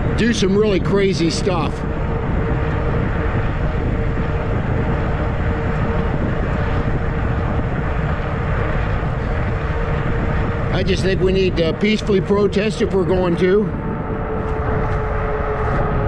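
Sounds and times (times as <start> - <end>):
electric bike hum: 0.0 - 16.0
wind rumbling over microphone: 0.0 - 16.0.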